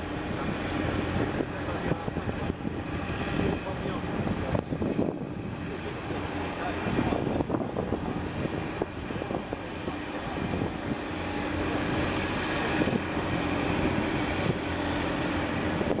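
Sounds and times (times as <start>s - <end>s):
boat engine droning: 0.0s - 16.0s
wind buffeting microphone: 0.0s - 16.0s.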